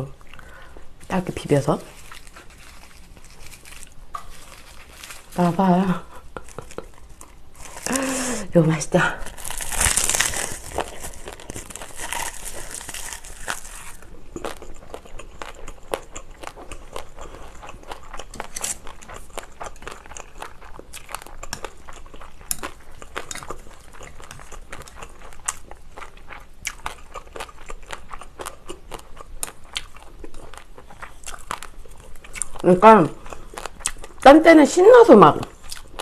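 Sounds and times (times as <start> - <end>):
chewing and crunching food: 0.2 - 8.4, 9.2 - 36.0.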